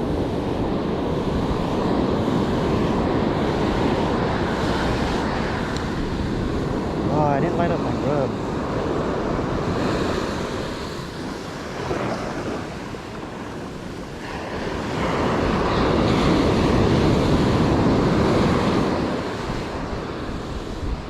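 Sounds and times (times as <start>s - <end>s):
ocean surf on beach: 0.0s - 21.0s.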